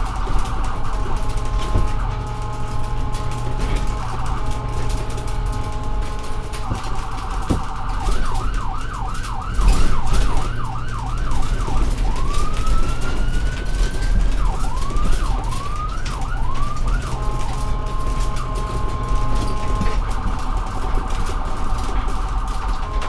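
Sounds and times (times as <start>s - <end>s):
ambulance siren: 0.0s - 23.0s.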